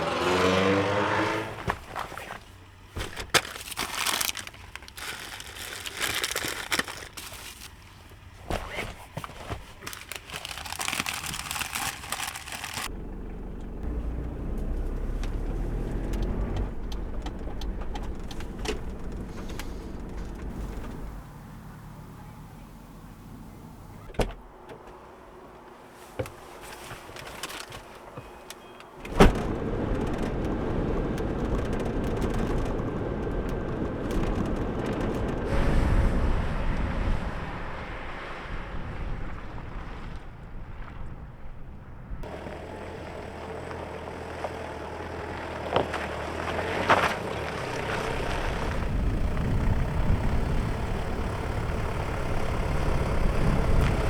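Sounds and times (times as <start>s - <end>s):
vehicle engine running: 0.0s - 25.8s, 29.1s - 54.0s.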